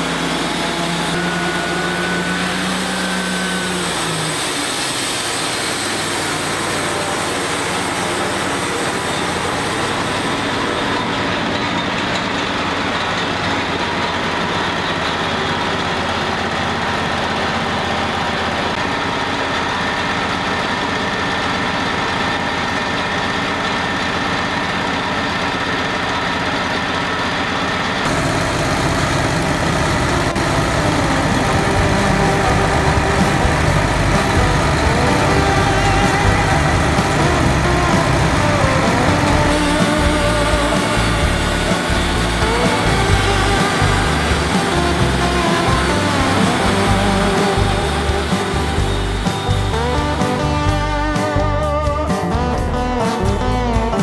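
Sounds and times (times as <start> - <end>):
band sawmill sawing log: 0.0 - 54.0.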